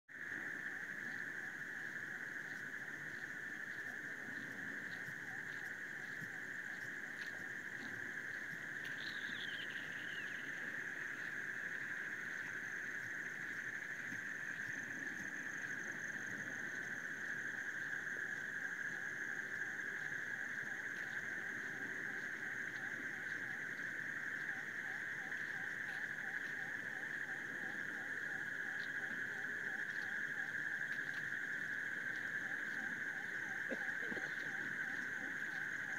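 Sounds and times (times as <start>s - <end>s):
faint insect chirp: 0.1s - 35.9s
insect high-pitched trill: 0.2s - 35.9s.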